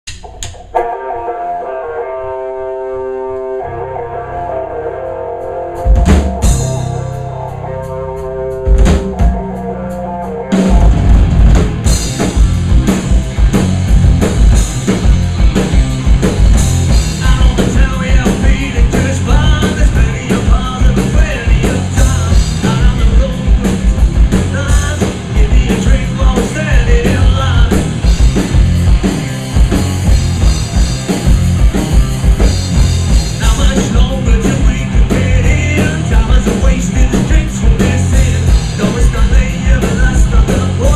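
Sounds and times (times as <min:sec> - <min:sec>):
drum-kit beat: 0:00.0 - 0:01.0, 0:05.8 - 0:40.9
rock band playing: 0:00.0 - 0:40.9.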